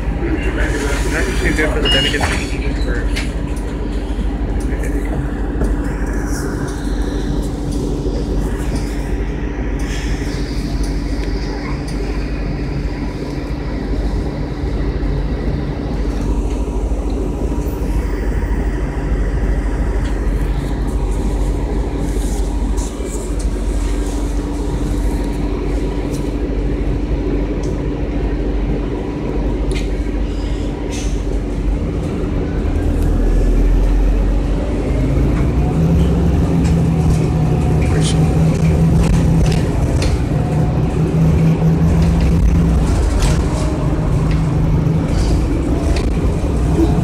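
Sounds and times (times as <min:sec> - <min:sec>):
bus engine hum: 0:00.0 - 0:47.0
road noise: 0:00.0 - 0:47.0.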